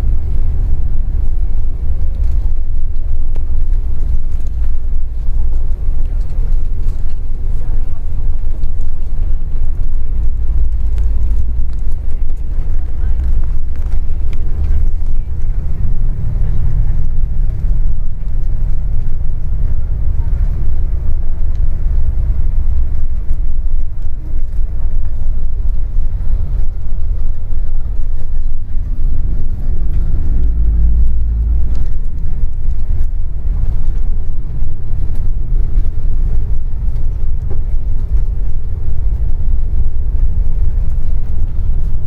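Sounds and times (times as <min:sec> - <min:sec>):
bus engine and road rumble: 0:00.0 - 0:42.0.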